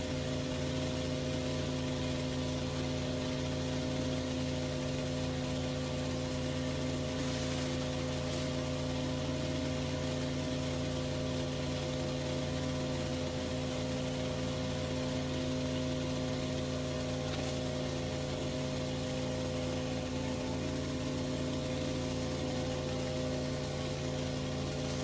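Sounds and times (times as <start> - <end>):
pressure washer engine humming: 0.0 - 25.0
water spray hissing: 0.0 - 25.0.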